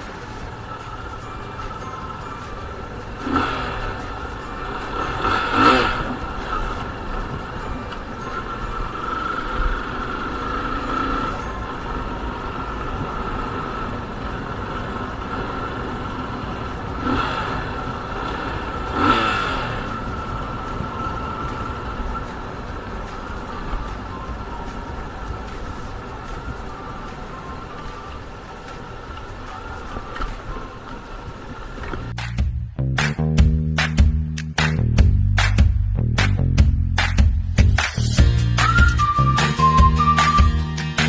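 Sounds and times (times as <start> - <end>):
motorcycle engine and road noise: 0.0 - 41.0
vehicles passing: 0.0 - 41.0.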